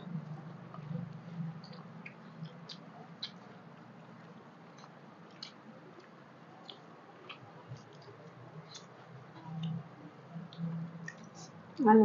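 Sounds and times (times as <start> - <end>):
faint low hum: 0.0 - 12.0
wet chewing clicks: 0.2 - 11.6.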